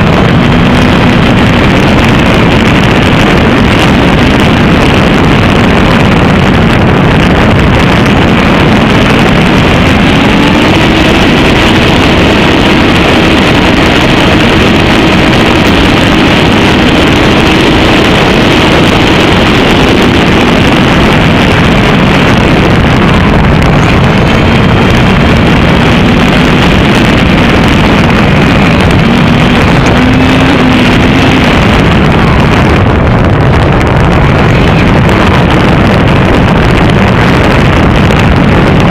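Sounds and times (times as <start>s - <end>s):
drone propellers rushing: 0.0s - 38.9s.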